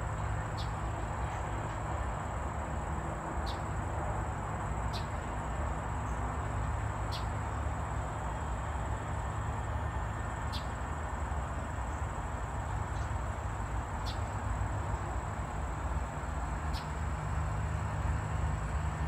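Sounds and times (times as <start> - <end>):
low rumble of distant traffic: 0.0 - 19.0.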